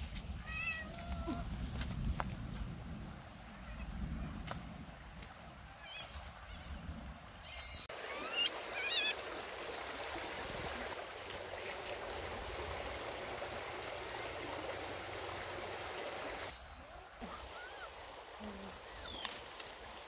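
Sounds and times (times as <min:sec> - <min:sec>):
stream water running and splashing: 0:00.0 - 0:20.0.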